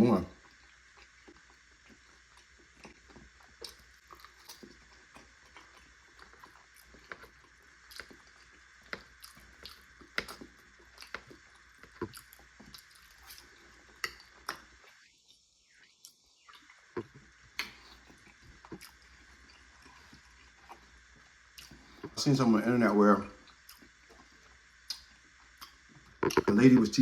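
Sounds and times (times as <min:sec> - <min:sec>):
faint steady hiss: 0:00.0 - 0:27.0
chewing and mouth sounds: 0:00.3 - 0:15.1, 0:16.0 - 0:22.2, 0:23.4 - 0:26.9.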